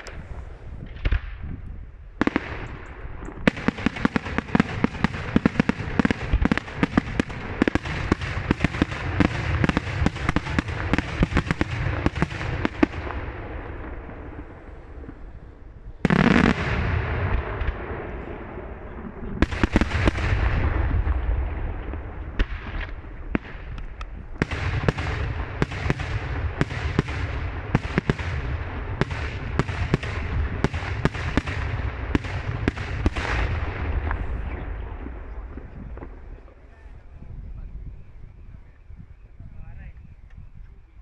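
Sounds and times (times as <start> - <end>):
low echoing rumble: 0.0 - 40.6.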